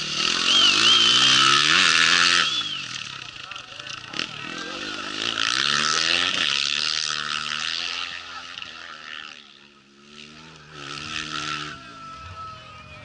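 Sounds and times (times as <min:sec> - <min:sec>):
another engine approaching: 0:00.0 - 0:13.0
motorcycle engine passing by: 0:00.0 - 0:13.0.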